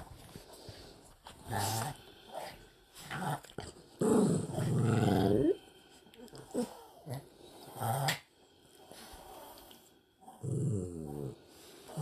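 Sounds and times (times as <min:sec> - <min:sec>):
dog growling: 0:01.4 - 0:08.3, 0:09.1 - 0:12.0.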